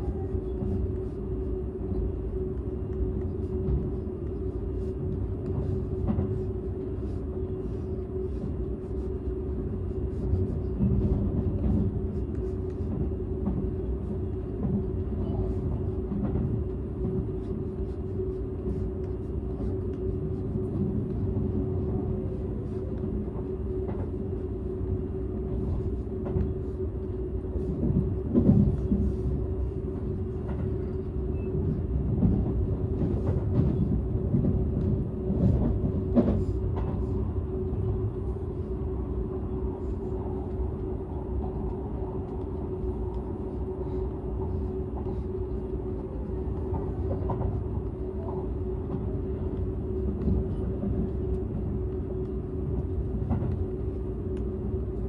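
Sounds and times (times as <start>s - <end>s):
constant hum: 0.0s - 55.0s
train rumble: 0.0s - 55.0s.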